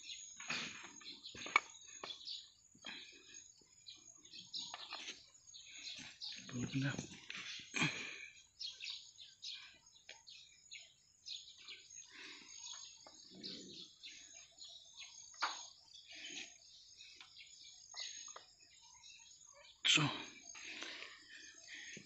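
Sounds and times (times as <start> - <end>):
faint chirping: 0.0 - 22.0.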